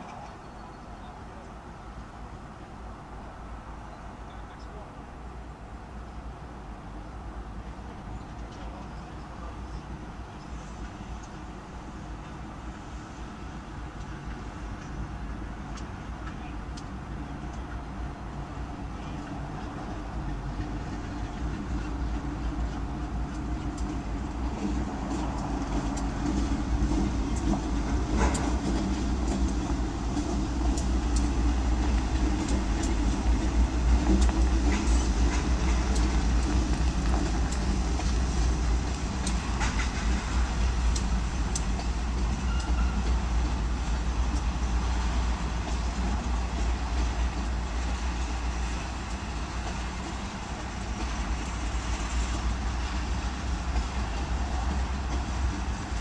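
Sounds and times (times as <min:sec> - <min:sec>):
diesel locomotive engines rumbling: 0:00.0 - 0:56.0
train wheels clicking: 0:08.2 - 0:56.0.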